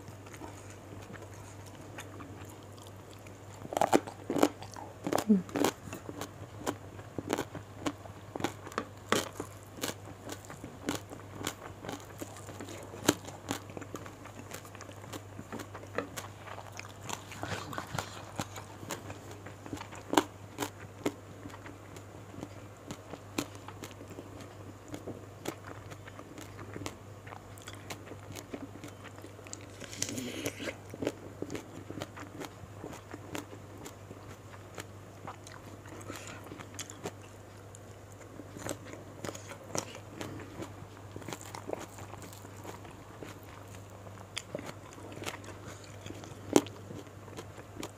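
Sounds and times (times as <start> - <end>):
chewing and crunching: 0.0 - 47.9
steady low hum: 0.0 - 47.9.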